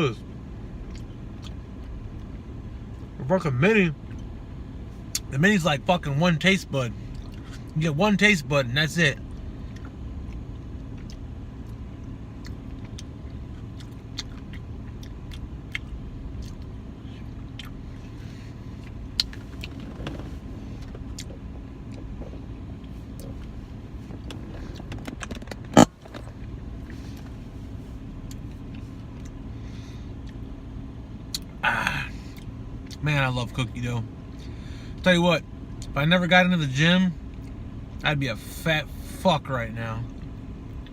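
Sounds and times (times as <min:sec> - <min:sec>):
idling car hum inside cabin: 0:00.0 - 0:40.9.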